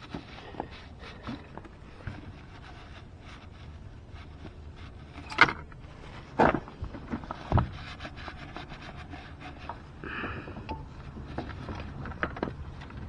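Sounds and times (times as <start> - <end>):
rubbing on engine: 0.0 - 13.0.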